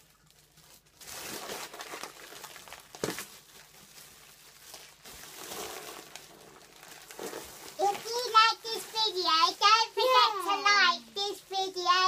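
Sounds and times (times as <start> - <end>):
foil balloons crinkling: 0.0 - 12.0.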